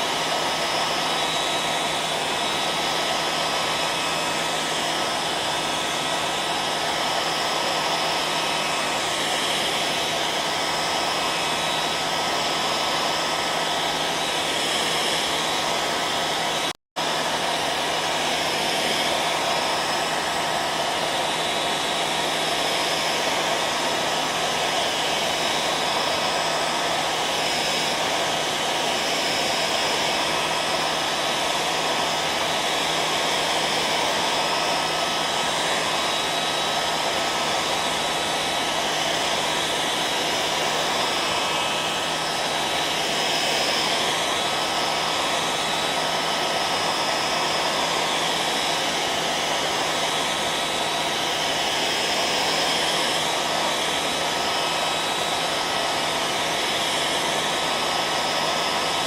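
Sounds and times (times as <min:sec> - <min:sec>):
hairdryer running: 0:00.0 - 0:59.0.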